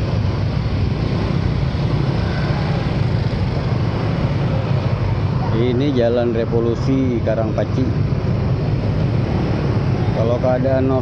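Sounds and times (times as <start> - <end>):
scooter engines droning: 0.0 - 11.0.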